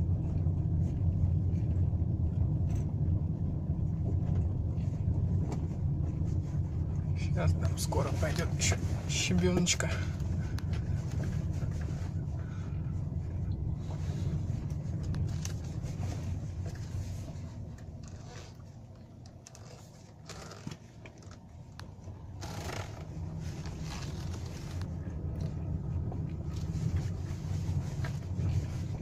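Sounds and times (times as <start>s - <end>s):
road and tyre rumble: 0.0s - 29.0s.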